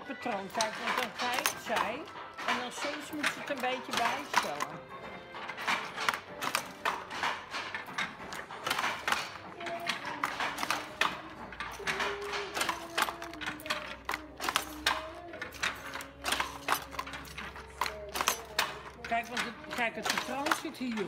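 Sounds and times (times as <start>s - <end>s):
faint music: 0.0s - 21.0s
handloom wooden clacks: 0.0s - 21.0s.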